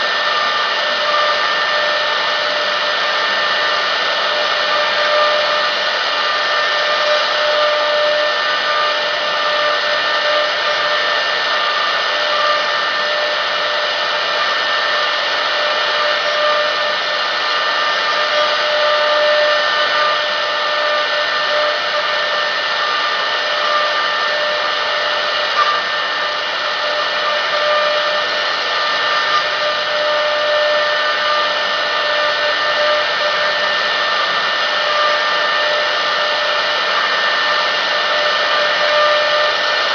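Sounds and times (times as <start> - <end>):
cnc router motor whine: 0.0 - 39.9.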